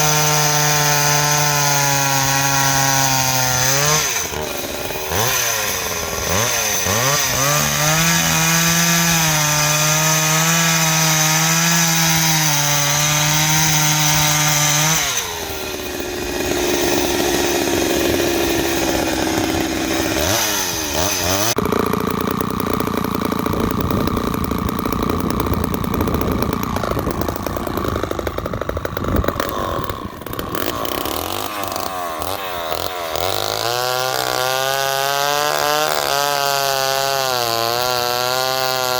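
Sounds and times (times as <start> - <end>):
chainsaw revving and cutting wood: 0.0 - 38.9.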